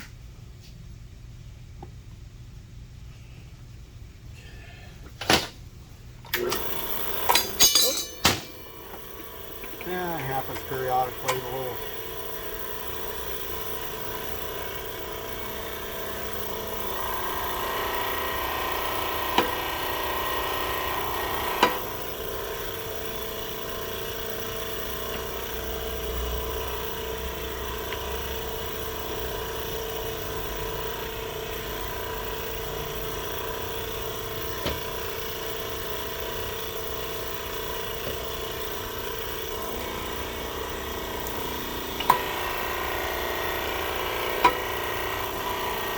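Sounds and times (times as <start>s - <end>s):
hydraulic press running: 6.2s - 45.9s.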